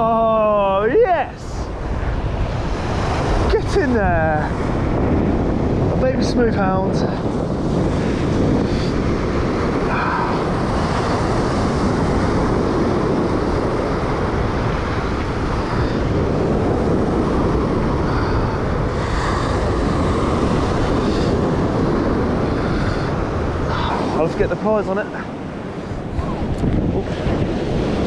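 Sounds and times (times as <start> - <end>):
surf breaking on beach: 0.0 - 28.0
wind buffeting microphone: 0.0 - 28.0.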